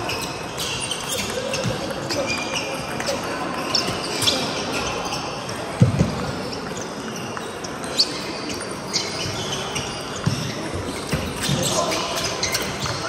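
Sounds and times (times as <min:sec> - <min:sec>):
sports hall background noise: 0:00.0 - 0:13.0.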